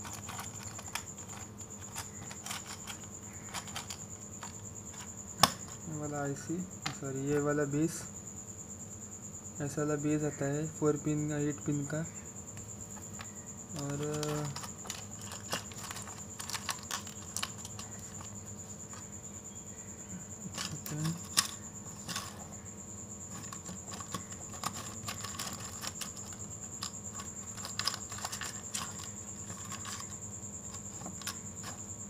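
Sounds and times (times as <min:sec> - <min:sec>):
cricket trill: 0:00.0 - 0:32.0
faint electrical hum: 0:00.0 - 0:32.0.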